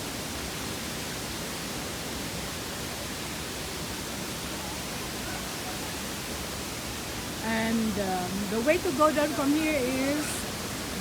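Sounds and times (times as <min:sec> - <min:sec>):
waterfall rushing: 0:00.5 - 0:11.0.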